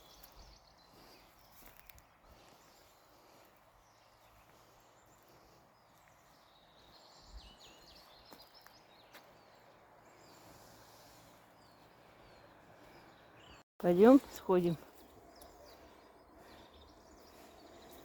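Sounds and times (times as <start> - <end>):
distant bird chirps: 0.0 - 18.0.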